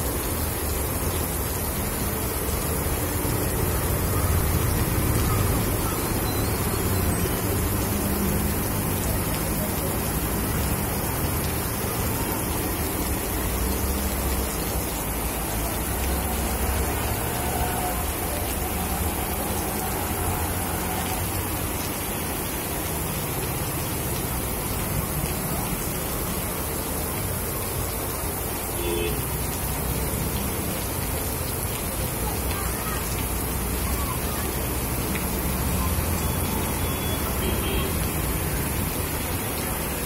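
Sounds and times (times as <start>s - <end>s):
heavy rain on pavement: 0.0s - 40.0s.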